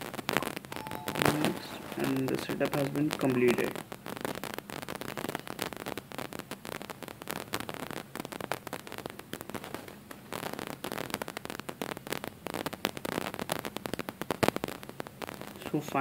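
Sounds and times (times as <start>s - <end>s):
crackling static: 0.0s - 16.0s.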